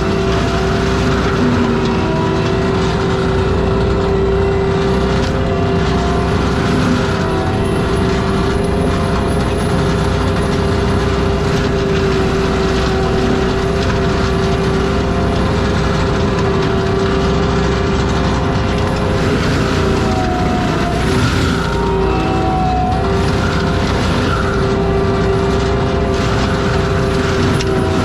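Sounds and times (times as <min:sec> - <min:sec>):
mulcher high whine: 0:00.0 - 0:28.0
track loader engine: 0:00.0 - 0:28.0.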